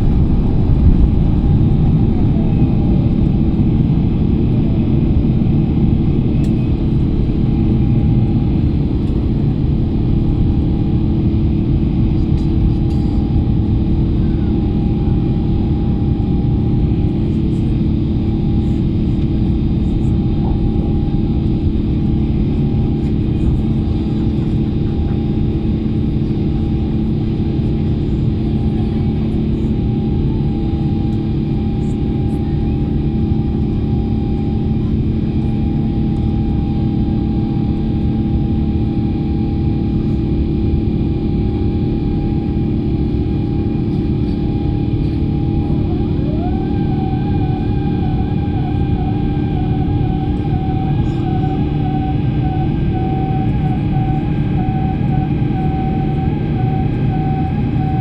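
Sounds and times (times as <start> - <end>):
jet engine rumble in cabin: 0.0 - 58.0
steady humming tones: 0.0 - 58.0.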